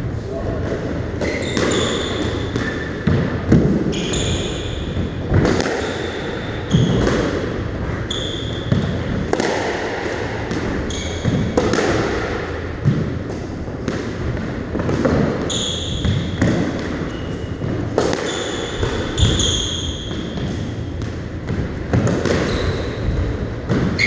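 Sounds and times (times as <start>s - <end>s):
squash ball hits echoing: 0.5s - 24.0s.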